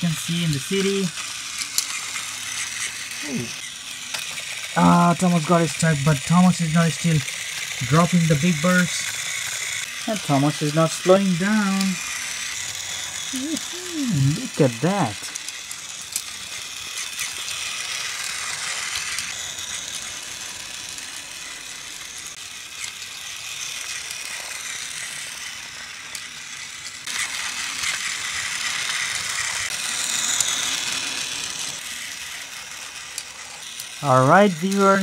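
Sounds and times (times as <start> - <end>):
toy train motor whirring: 0.0 - 35.0.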